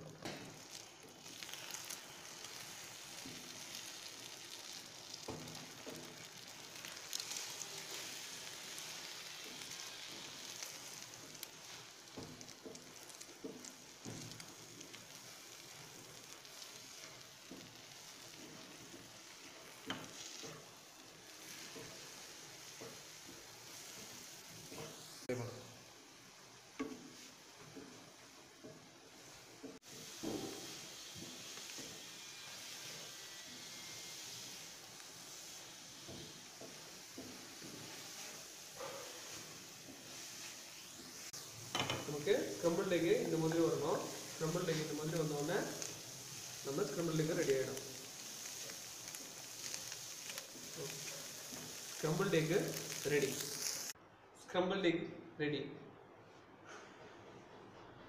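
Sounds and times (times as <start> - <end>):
eggs sizzling in a frying pan: 0.0 - 54.0
spatula scraping a pan: 0.6 - 25.2, 26.8 - 53.8.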